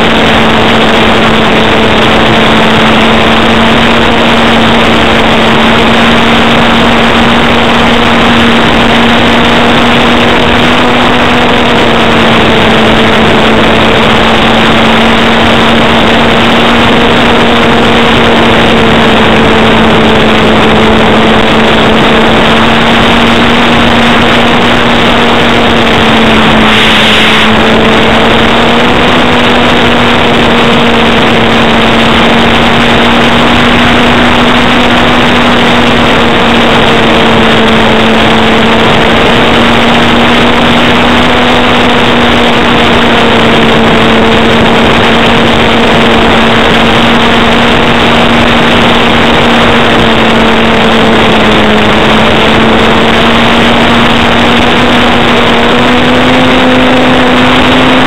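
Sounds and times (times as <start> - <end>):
propeller drone: 0.0 - 58.0
wind rush on microphone: 0.0 - 58.0.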